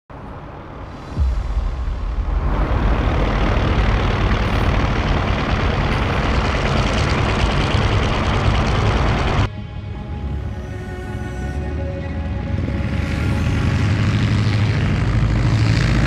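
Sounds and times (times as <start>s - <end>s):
aircraft piston engine rumbling: 0.2s - 16.0s.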